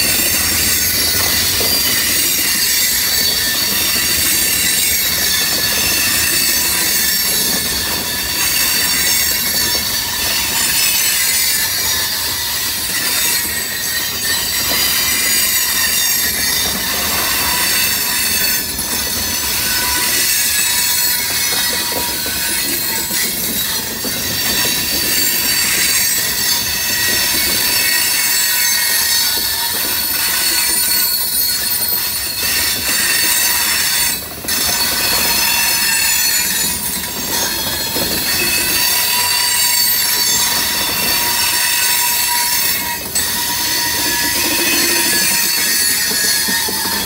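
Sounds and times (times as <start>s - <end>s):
steel wheels rumbling on rails: 0.0s - 47.0s
train wheels squealing: 0.0s - 47.0s.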